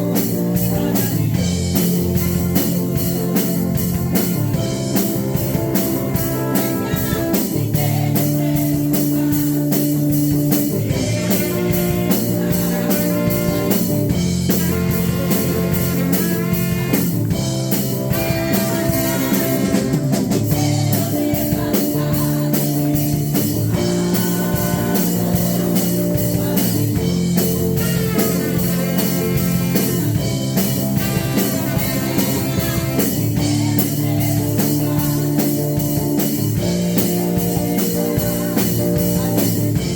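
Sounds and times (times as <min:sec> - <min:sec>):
drum kit beat: 0:00.0 - 0:39.9
worship band music: 0:00.0 - 0:39.9.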